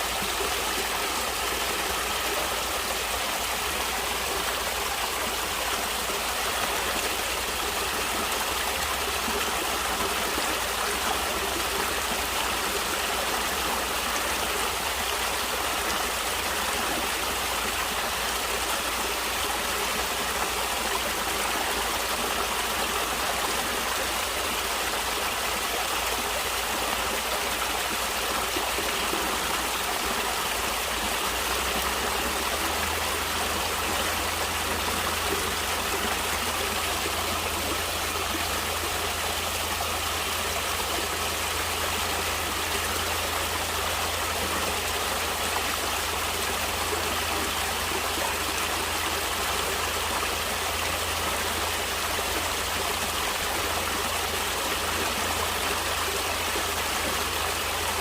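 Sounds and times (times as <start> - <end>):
stream flowing and splashing: 0.0 - 58.0.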